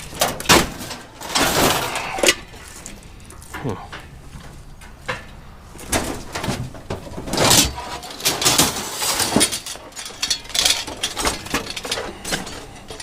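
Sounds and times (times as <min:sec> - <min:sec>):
scrap metal clanking and scraping: 0:00.0 - 0:13.0.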